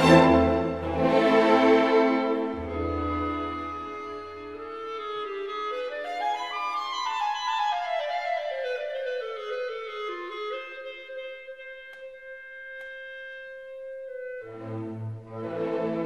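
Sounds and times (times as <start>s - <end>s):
classical woodwind melody: 0.0s - 16.0s.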